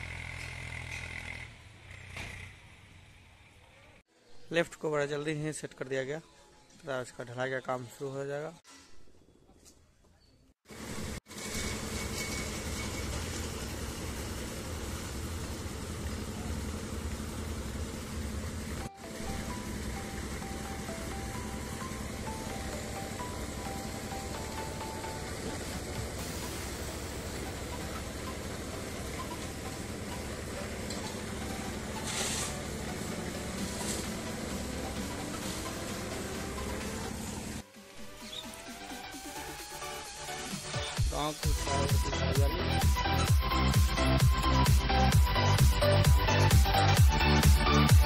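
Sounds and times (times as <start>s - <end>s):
concrete mixer engine droning: 0.0s - 3.8s, 10.7s - 48.0s.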